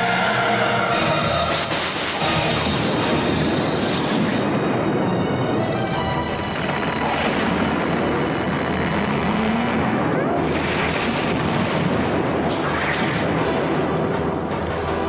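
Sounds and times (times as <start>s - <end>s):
dense rumbling blast-like noise: 0.2s - 15.0s.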